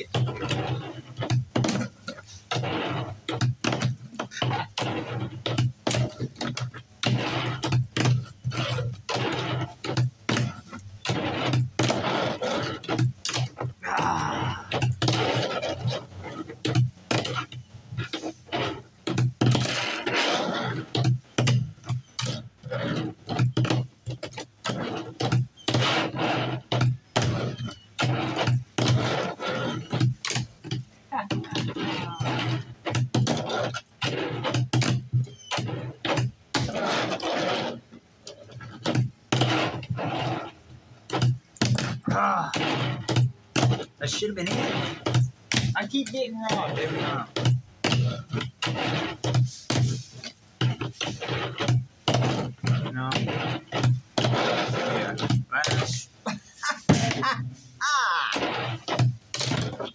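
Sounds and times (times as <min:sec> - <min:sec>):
fingerboard clicks and clacks: 0:00.0 - 0:13.8, 0:14.7 - 0:57.6, 0:58.3 - 0:59.9
fingerboard rolling on tabletop: 0:00.0 - 0:59.9.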